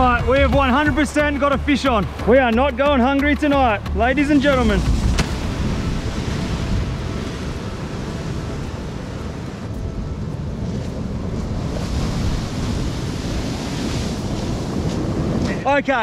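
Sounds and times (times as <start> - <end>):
sea surf washing: 0.0 - 16.0
wind buffeting microphone: 0.0 - 16.0.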